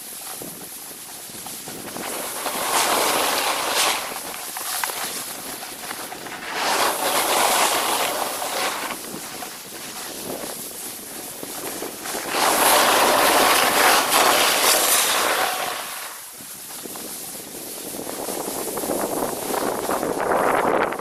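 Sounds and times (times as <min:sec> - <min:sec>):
snowboard scraping over snow: 0:00.0 - 0:21.0.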